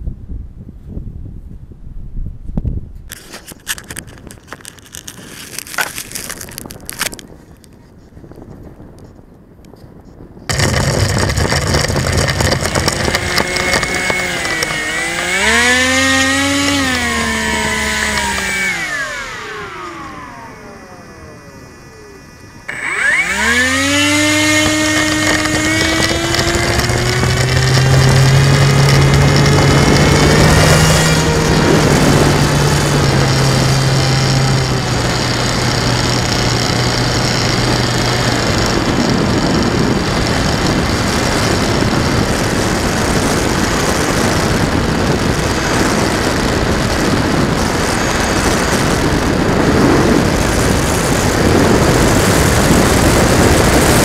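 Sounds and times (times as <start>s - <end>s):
wind noise on microphone: 0.0s - 54.0s
model plane motor whine: 10.5s - 54.0s.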